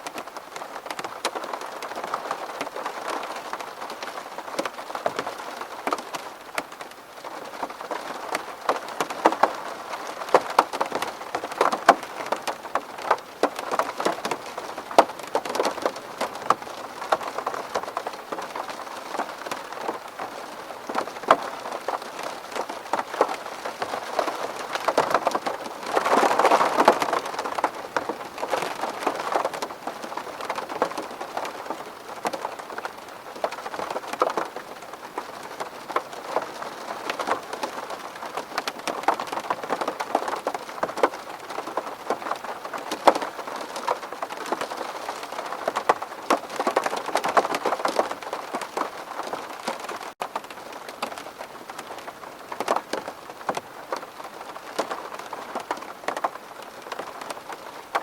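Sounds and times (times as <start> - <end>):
rain on a window pane: 0.0 - 58.0.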